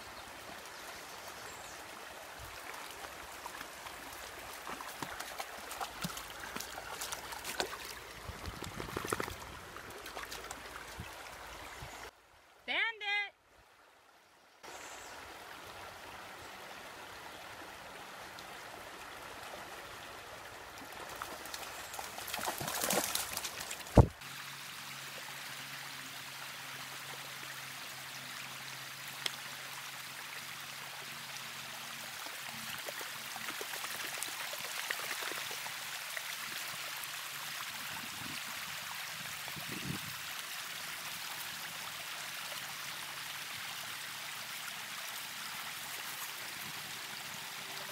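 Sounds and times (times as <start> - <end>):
creek babbling over rocks: 0.0 - 47.9.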